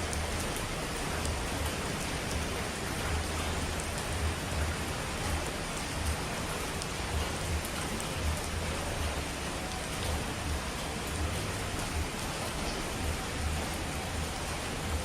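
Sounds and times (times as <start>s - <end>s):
heavy rain hiss: 0.0s - 15.0s
raindrop ticks: 0.0s - 15.0s.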